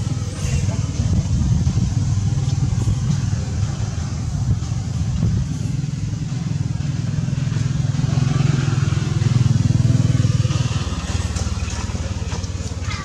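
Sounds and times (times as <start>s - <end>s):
engine low pulsing hum: 0.0s - 13.0s.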